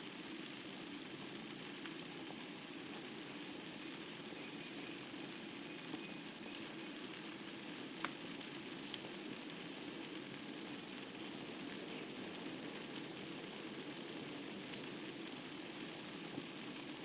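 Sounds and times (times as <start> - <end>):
burning logs crackling and popping: 0.1 - 17.0
fire hissing: 0.1 - 17.0.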